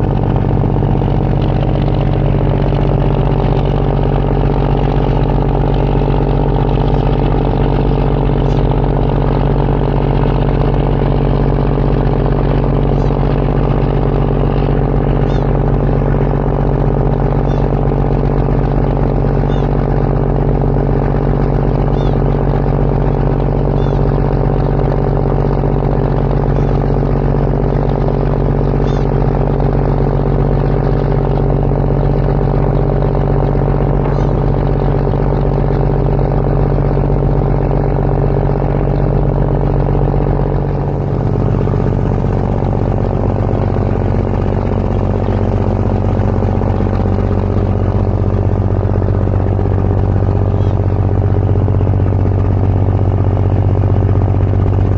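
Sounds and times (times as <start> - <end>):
diesel engine droning: 0.0 - 54.9.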